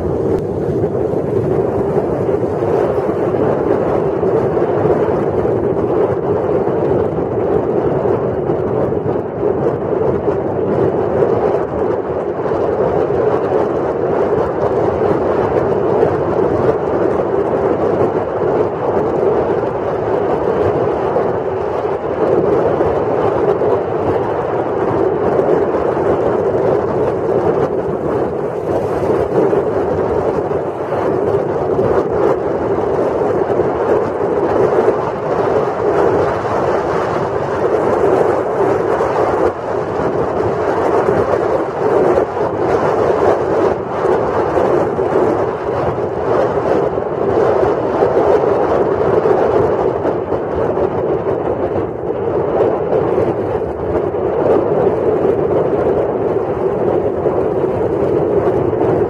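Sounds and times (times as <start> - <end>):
wind over microphone: 0.0 - 59.0.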